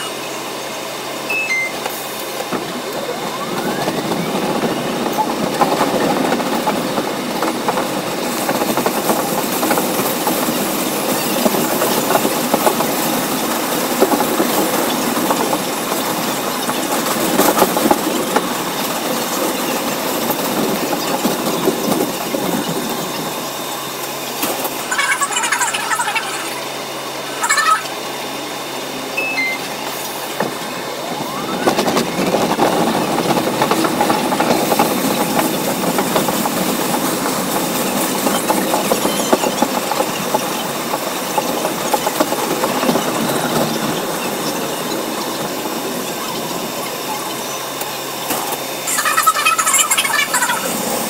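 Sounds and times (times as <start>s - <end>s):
train motor whine: 0.0s - 24.9s, 25.5s - 49.2s
train wheels on rails: 0.0s - 28.9s, 29.6s - 51.0s.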